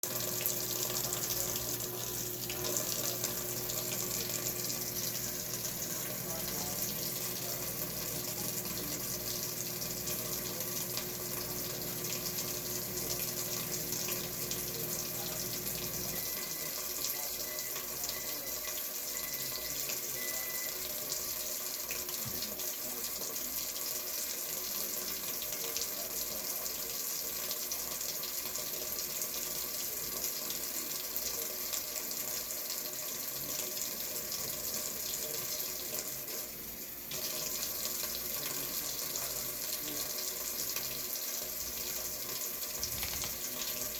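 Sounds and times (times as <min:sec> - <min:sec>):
water running from a tap: 0:00.0 - 0:43.9.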